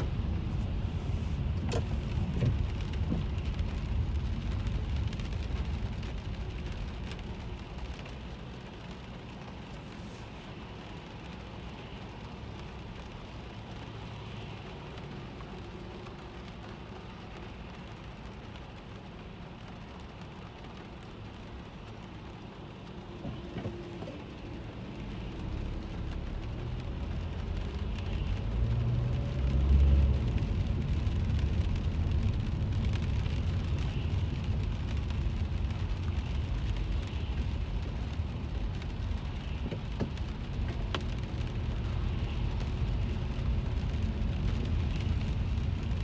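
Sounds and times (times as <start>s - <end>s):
car road and engine rumble: 0.0s - 46.0s
rain pattering on car body: 0.0s - 46.0s.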